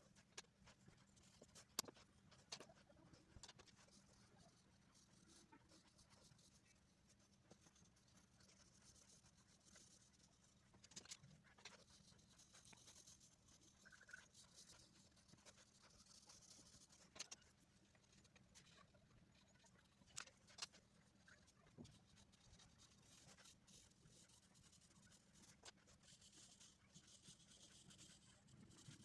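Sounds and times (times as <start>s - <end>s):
pencil scratching on paper: 0.2s - 17.6s, 20.4s - 29.0s.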